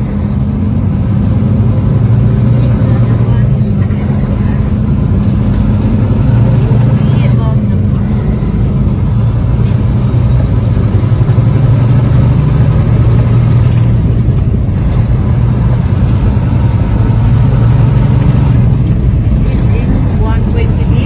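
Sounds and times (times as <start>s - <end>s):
road noise: 0.0s - 21.0s
truck engine droning: 0.0s - 21.0s.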